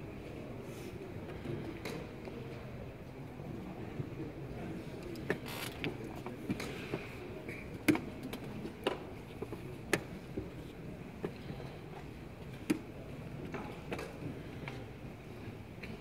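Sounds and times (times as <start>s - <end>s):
murmur of voices in hall: 0.0s - 16.0s.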